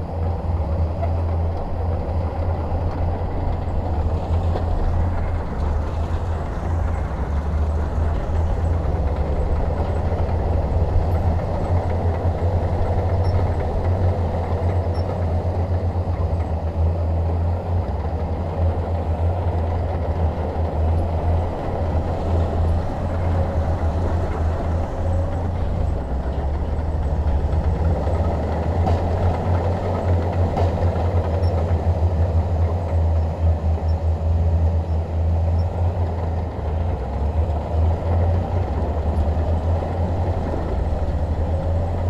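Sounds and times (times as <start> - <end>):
bulldozer diesel engine droning: 0.0 - 42.0.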